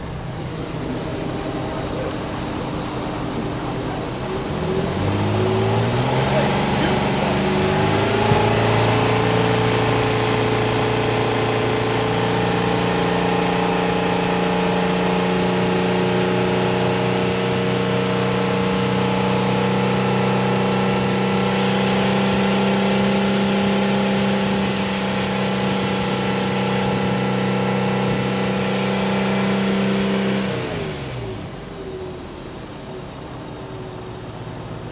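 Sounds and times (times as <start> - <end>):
car engine idling: 0.0 - 34.9
engine winding down: 0.0 - 34.9.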